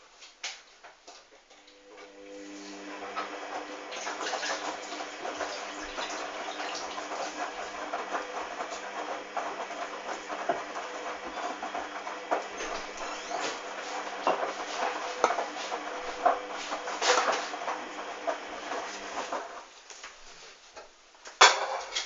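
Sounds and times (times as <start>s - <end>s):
washing machine hum: 1.6s - 20.4s.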